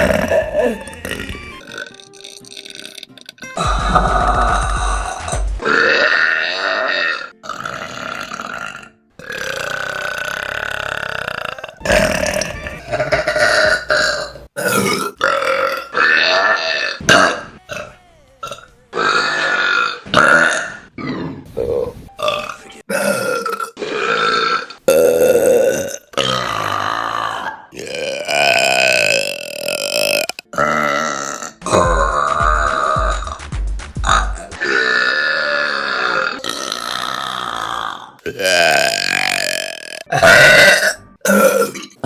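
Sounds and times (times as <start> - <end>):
women burping: 0.0 - 20.8, 22.9 - 33.0, 34.1 - 42.0.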